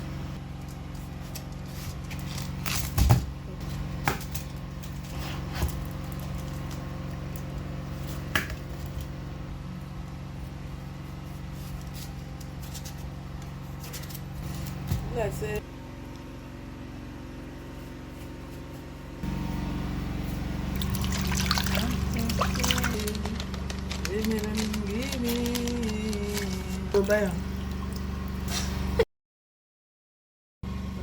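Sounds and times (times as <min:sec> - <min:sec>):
low mechanical hum: 0:00.0 - 0:29.1, 0:30.6 - 0:31.0.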